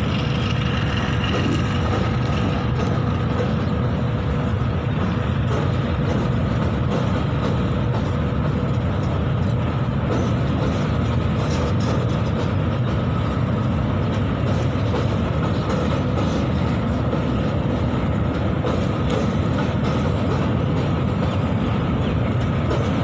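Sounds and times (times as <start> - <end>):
freight train wheels on track: 0.0 - 23.0.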